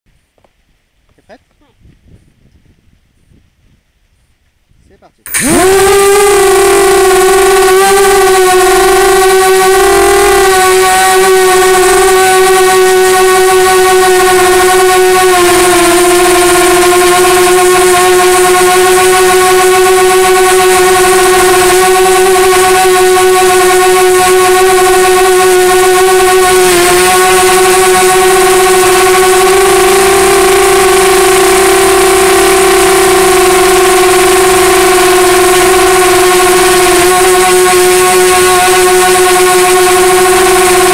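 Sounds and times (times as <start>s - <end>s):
quadcopter motors whining: 5.2s - 40.9s.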